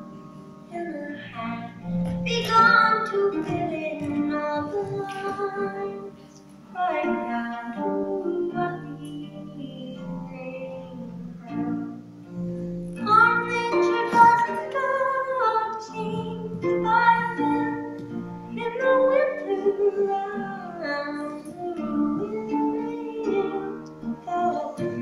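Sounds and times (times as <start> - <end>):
plucked strings: 0.0 - 25.0
woman singing slow melody: 0.7 - 12.0, 13.0 - 25.0.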